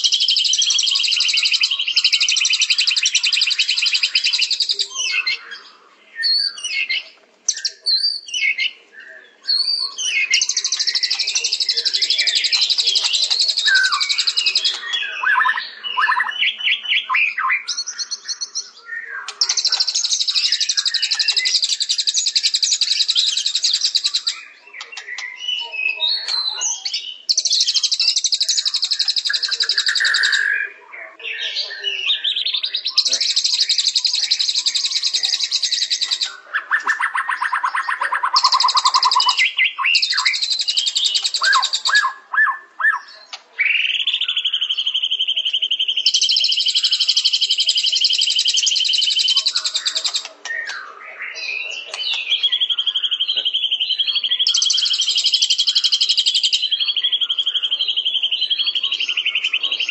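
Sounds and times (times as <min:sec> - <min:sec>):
songbird trilling and chirping: 0:00.0 - 0:59.9.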